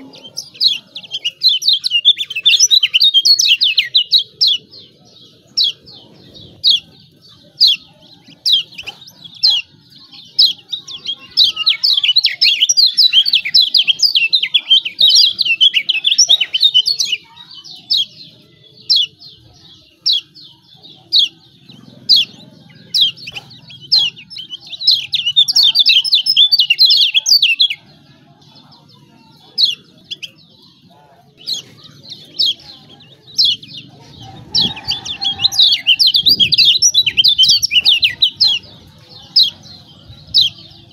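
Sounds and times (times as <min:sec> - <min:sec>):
bird chirping and chattering: 0:00.0 - 0:40.9.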